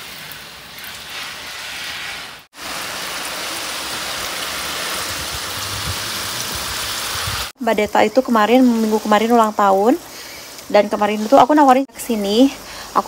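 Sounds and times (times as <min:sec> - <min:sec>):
hose spraying water: 0:00.0 - 0:13.0.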